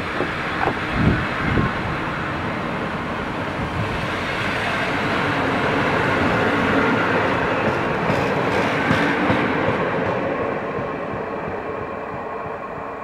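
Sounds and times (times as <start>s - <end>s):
train carriages rumbling past: 0.0s - 13.0s.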